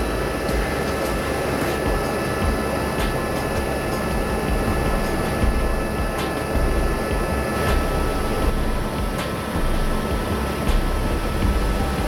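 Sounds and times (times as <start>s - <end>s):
faint steady whines: 0.0s - 12.0s
helicopter engine and rotor drone: 0.0s - 12.0s.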